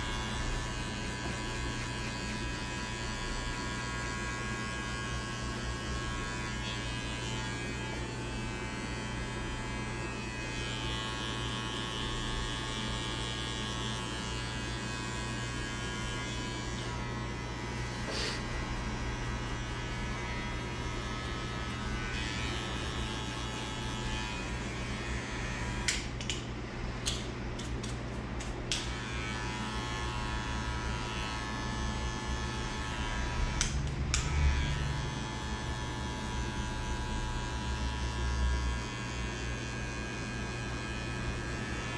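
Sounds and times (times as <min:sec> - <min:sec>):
electric hair clippers buzzing: 0:00.0 - 0:41.9.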